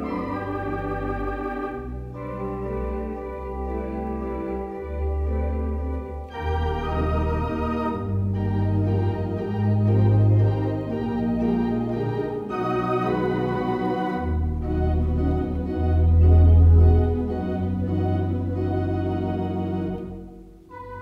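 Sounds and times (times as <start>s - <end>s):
deep pedal bass notes: 0.0s - 20.5s
organ playing sustained chords: 0.0s - 21.0s.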